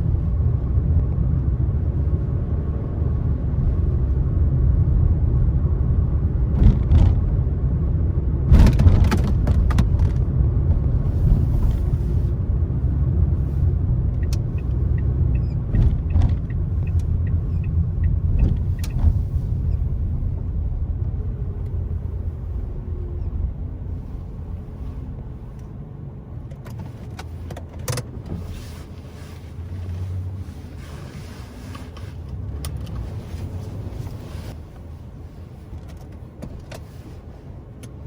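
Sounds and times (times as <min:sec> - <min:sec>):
car tyres and engine rumble: 0:00.0 - 0:38.0.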